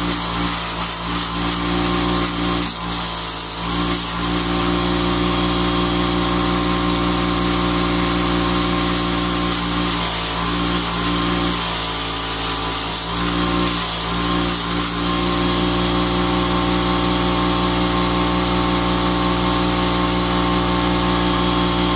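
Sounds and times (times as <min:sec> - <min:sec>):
crackling hissing welding arc: 0:00.0 - 0:21.9
welder mains hum: 0:00.0 - 0:21.9.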